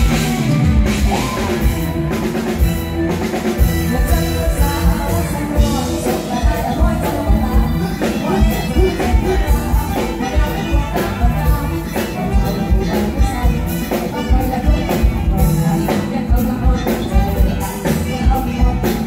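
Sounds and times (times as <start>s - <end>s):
live band music: 0.0s - 19.0s
woman singing into a microphone: 3.7s - 19.0s.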